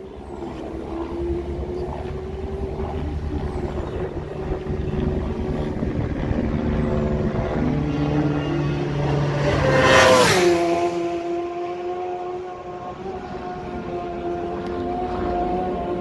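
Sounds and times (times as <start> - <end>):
motorbike engine at high revs: 0.0 - 16.0.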